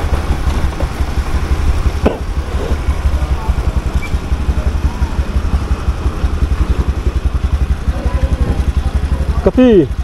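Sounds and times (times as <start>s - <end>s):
motorcycle engine throbbing: 0.0s - 10.0s.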